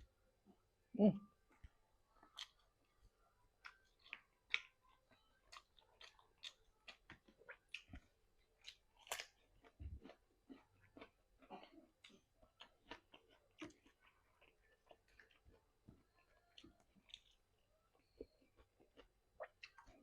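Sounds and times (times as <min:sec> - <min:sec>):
person chewing fried chicken: 0:01.6 - 0:02.9, 0:03.6 - 0:20.0.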